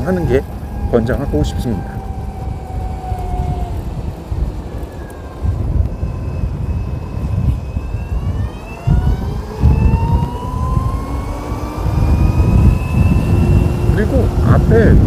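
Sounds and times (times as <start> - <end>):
electric scooter whine rising: 0.0 - 15.0
wind buffeting microphone: 0.0 - 15.0.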